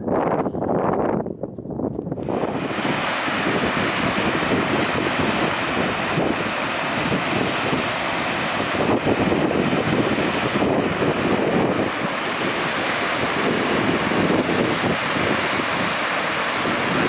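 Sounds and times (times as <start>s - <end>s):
wind buffeting microphone: 0.0s - 17.0s
rushing water roar: 2.2s - 17.0s.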